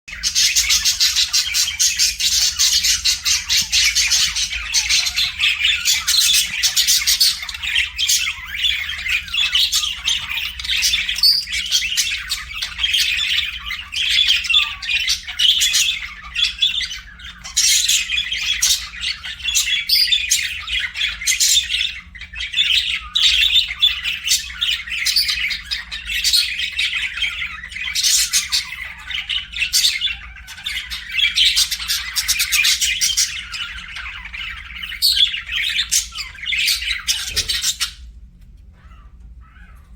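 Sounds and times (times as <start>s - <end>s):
budgerigars chirping: 0.1s - 38.1s.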